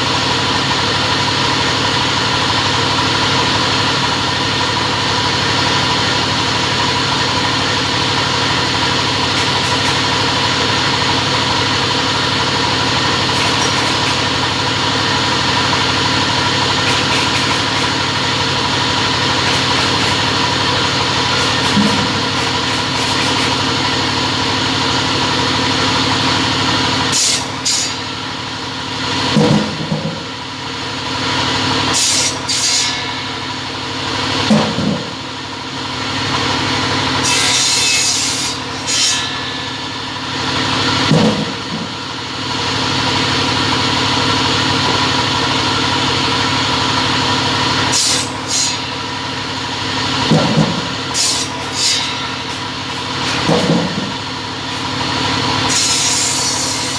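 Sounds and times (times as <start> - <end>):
saw motor humming: 0.0 - 56.9
saw cutting bursts: 5.2 - 29.1, 31.1 - 34.5, 36.1 - 44.2, 46.6 - 56.9.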